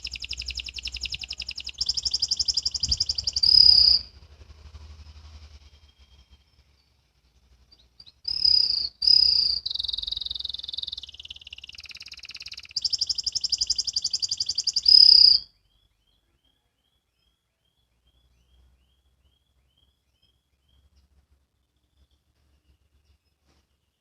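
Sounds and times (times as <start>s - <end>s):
canary singing: 0.0s - 7.0s, 7.6s - 23.4s.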